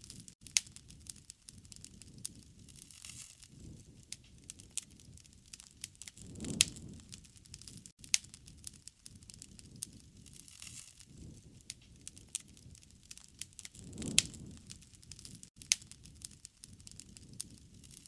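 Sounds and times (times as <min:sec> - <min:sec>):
campfire crackling and popping: 0:00.0 - 0:18.0
low rush of flame: 0:00.0 - 0:18.0.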